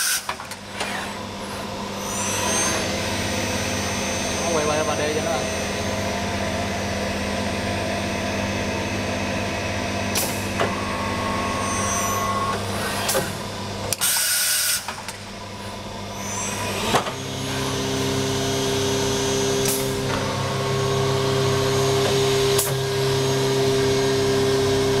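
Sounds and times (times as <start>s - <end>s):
drilling machine humming: 0.0s - 25.0s.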